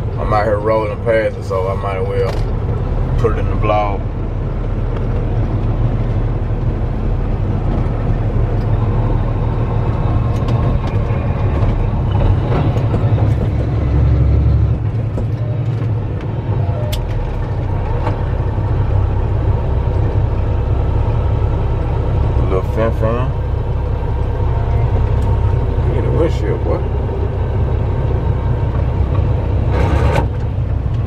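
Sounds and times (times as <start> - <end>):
diesel truck engine rumble: 0.0 - 31.0
road noise: 0.0 - 31.0.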